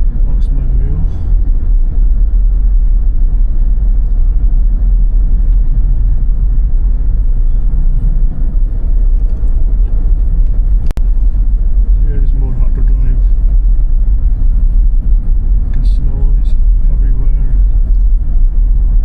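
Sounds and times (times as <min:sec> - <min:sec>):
car driving on snowy road: 0:00.0 - 0:19.0.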